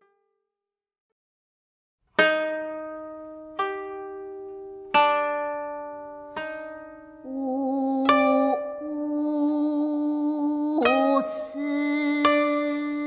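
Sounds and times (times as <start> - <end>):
koto plucked notes: 2.2 - 13.0.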